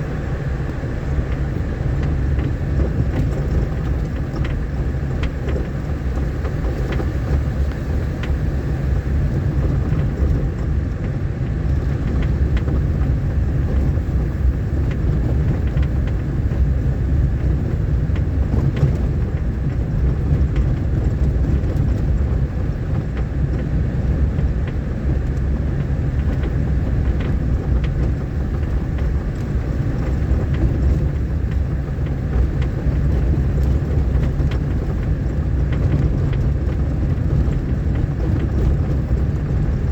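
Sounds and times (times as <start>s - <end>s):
vehicle rumbling on dirt road: 0.0s - 39.9s.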